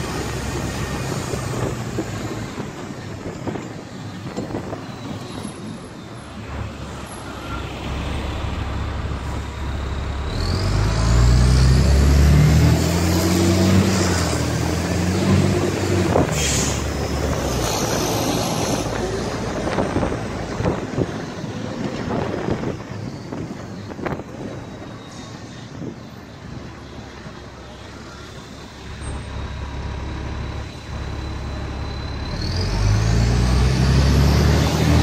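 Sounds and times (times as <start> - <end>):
vehicle engine and road noise: 0.0 - 35.0.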